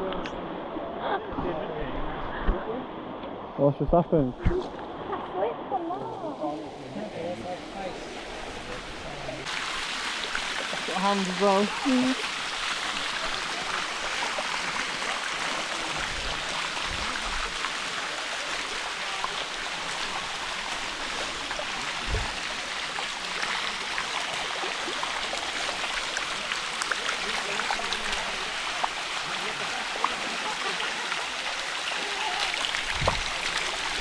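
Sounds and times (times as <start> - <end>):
waterfall rushing: 6.0 - 34.0.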